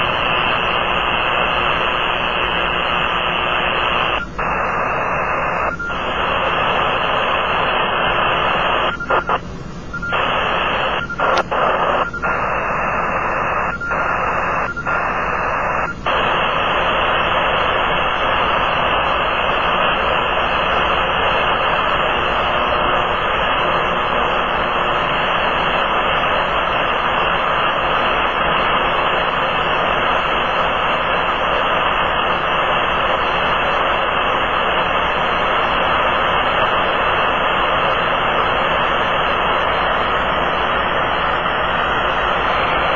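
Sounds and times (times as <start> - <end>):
radio interference noise: 0.0 - 42.9.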